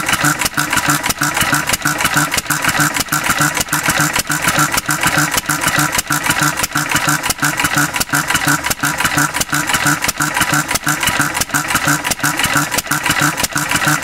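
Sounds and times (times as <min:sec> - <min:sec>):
stationary engine running: 0:00.0 - 0:14.0.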